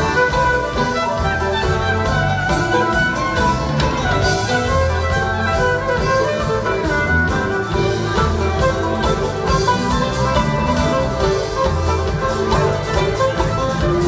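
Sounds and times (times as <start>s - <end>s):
fiddle: 0.0s - 14.0s
live band playing: 0.0s - 14.0s.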